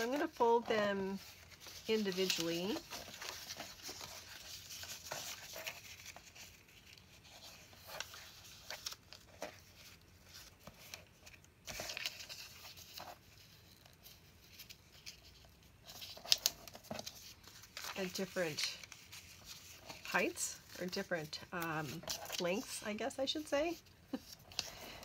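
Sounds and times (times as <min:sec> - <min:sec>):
paper rustling and creasing: 0:00.0 - 0:25.0.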